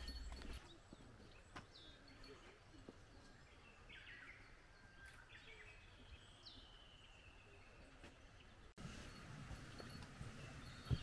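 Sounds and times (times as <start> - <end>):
songbird chirps: 0.0 - 11.0.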